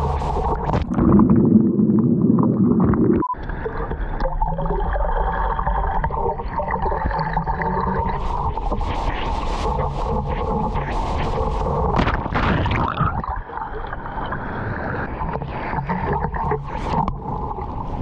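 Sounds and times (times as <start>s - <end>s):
seawater churning underwater: 0.0s - 18.0s.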